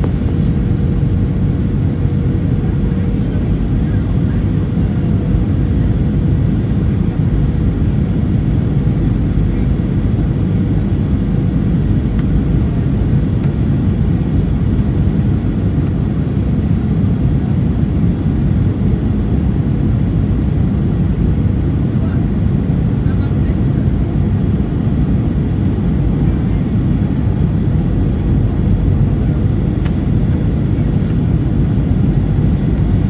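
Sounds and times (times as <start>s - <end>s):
jet engine rumble in cabin: 0.0s - 33.0s.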